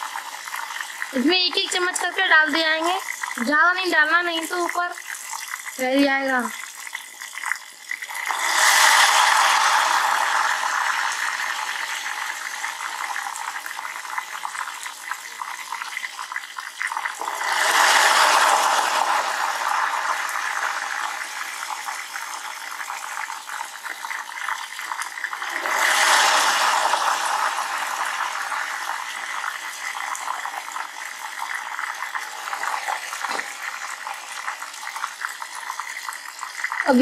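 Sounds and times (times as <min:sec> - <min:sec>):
batter sizzling in hot oil: 0:00.0 - 0:37.0.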